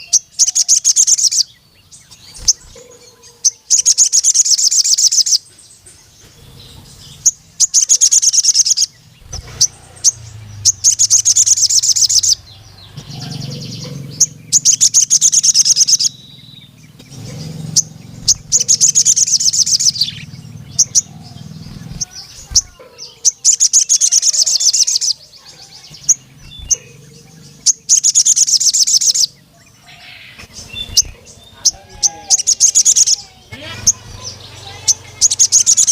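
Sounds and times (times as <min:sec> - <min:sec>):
bird singing rapid high notes: 0:00.0 - 0:35.9.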